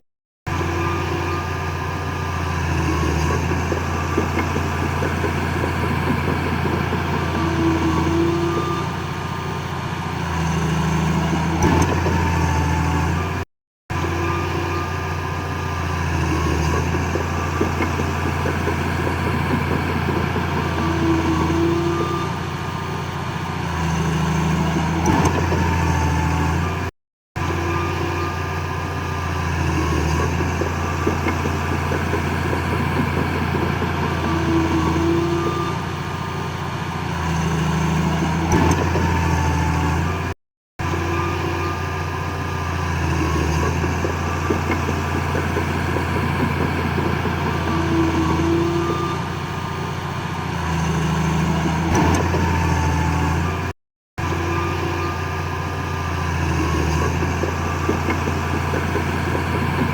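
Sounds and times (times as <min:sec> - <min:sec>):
diesel earthmoving machinery running: 0:00.5 - 0:59.9.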